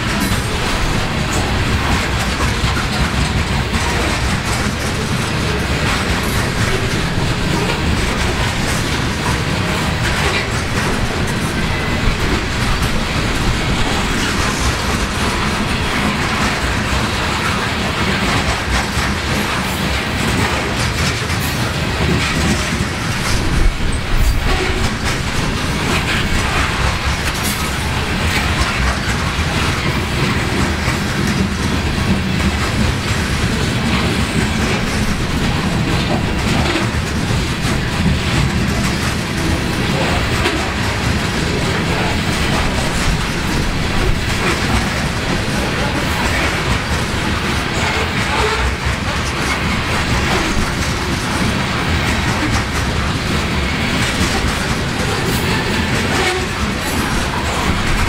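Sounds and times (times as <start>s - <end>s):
train wheels rumbling on rail: 0.0s - 58.0s
wheels clacking: 0.0s - 58.0s.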